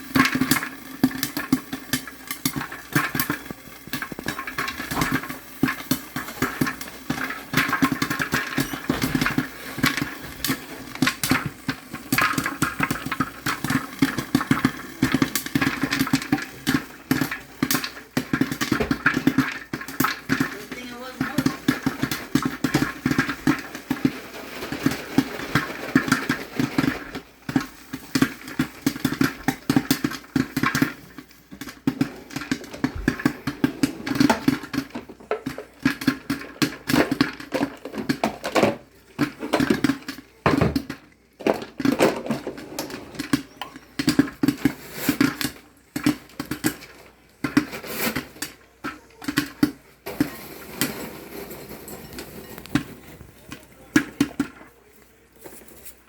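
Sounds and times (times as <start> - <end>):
popcorn kernels popping: 0.0 - 56.0.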